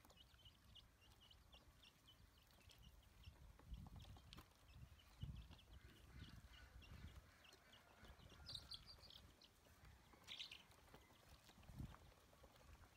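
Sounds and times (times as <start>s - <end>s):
ducklings peeping: 0.0s - 12.9s.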